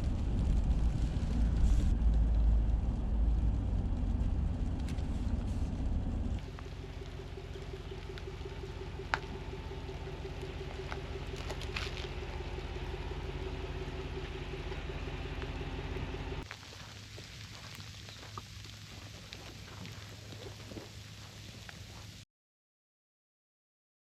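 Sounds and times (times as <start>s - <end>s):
road noise: 0.0s - 22.2s
vehicle engine hum: 0.0s - 22.2s.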